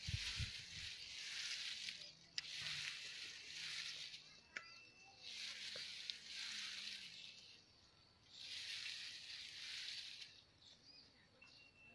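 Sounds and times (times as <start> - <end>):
insects hissing: 0.0 - 4.4, 5.1 - 10.6.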